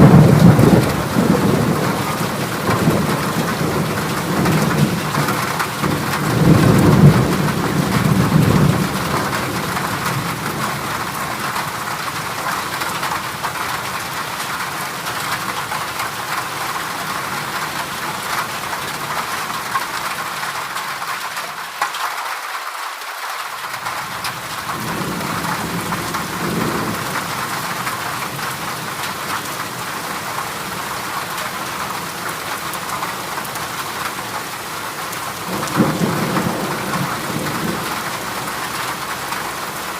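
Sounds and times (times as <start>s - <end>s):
heavy rain on metal roof: 0.0s - 39.9s.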